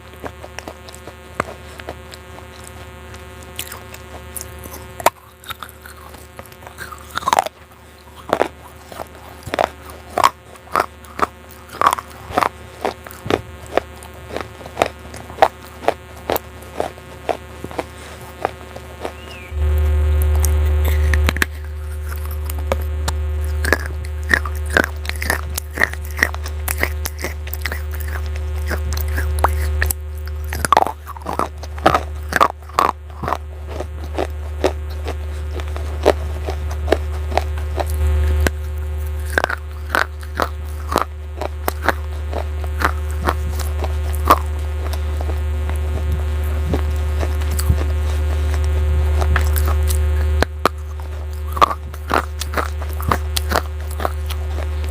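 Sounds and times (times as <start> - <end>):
crunching baked clay: 0.0 - 54.9
steady low hum: 0.0 - 54.9.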